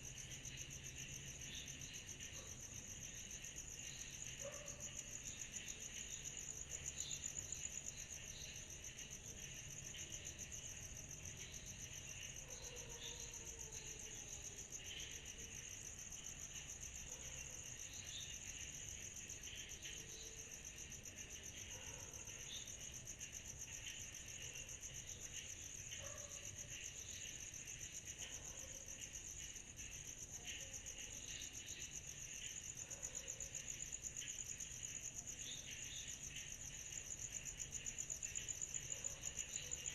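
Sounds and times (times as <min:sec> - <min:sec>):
insect chirps: 0:00.0 - 0:39.9.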